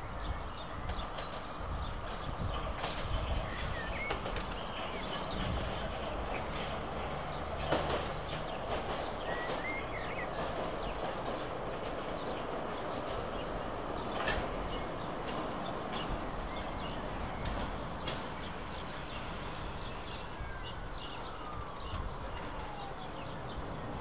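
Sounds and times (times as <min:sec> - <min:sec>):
underground train rumbling: 0:00.0 - 0:24.0
sharp clicks of train: 0:00.5 - 0:20.3.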